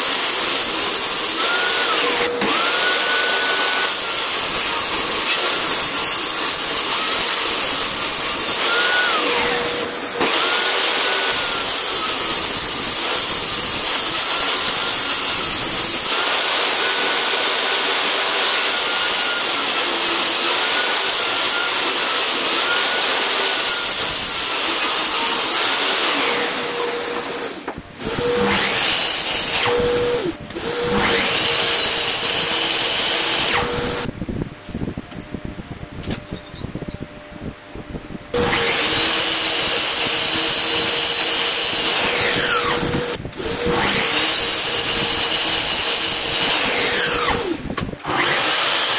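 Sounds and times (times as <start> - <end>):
table saw ripping boards: 0.0 - 30.0, 38.4 - 48.9.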